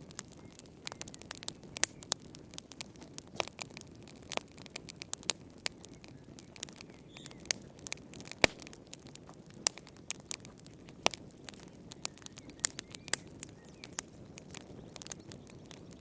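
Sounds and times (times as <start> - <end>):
soft rush of flames: 0.0 - 16.0
wood fire popping and snapping: 0.0 - 16.0.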